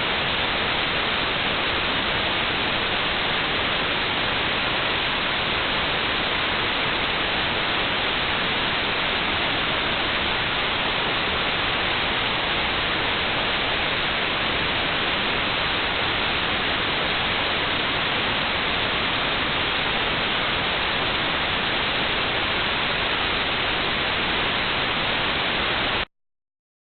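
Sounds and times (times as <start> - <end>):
white noise hiss: 0.0 - 26.1.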